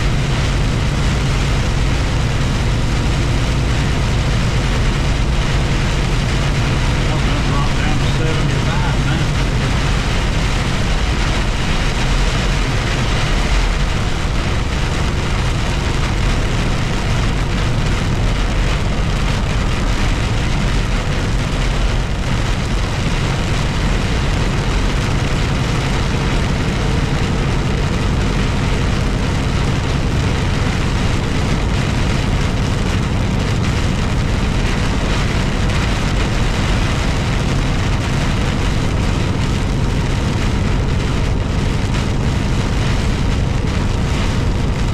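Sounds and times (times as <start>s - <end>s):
low engine drone: 0.0s - 44.9s
rain hissing on vehicle: 0.0s - 44.9s.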